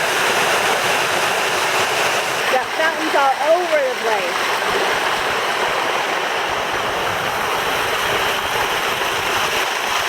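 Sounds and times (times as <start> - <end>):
water splashing into a pool: 0.0 - 10.0.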